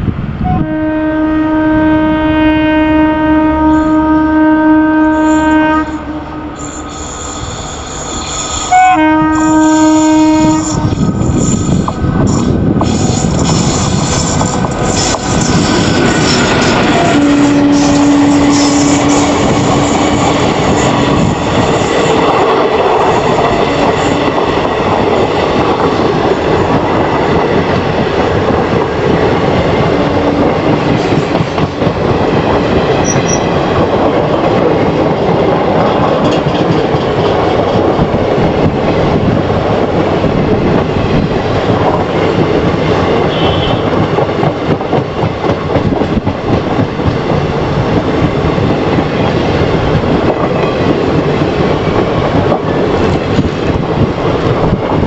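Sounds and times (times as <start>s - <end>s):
train wheels clattering over track: 6.6s - 55.0s.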